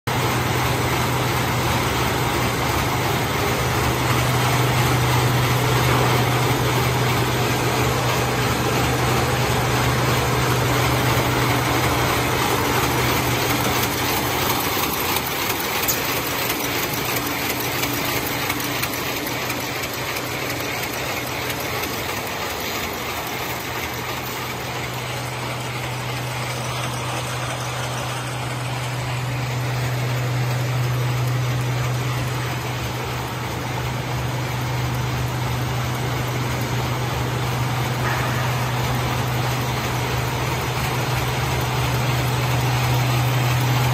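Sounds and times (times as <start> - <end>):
machine clattering: 0.1 - 43.9.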